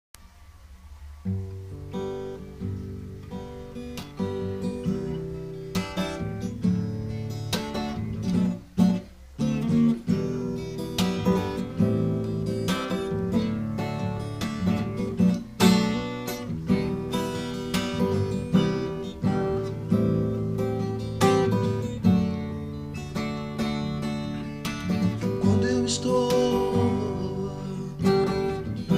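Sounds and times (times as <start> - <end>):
strummed acoustic guitar: 0.5 - 28.9.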